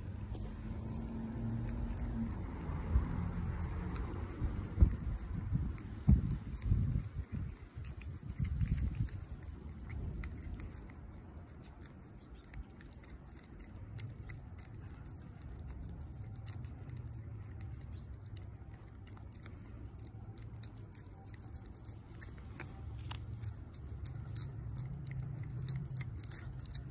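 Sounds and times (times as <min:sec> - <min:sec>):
cat tongue licking wet clicks: 0:00.0 - 0:26.9.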